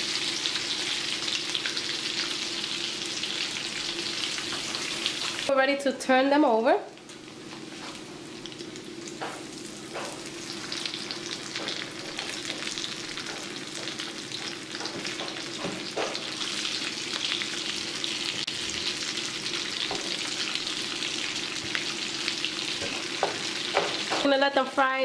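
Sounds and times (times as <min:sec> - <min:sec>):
food sizzling in oil: 0:00.0 - 0:05.5, 0:06.9 - 0:25.0.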